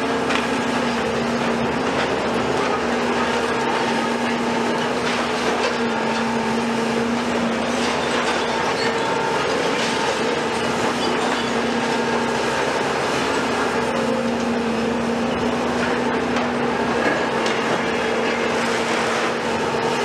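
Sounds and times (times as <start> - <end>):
excavator engines and hydraulics: 0.0 - 20.0.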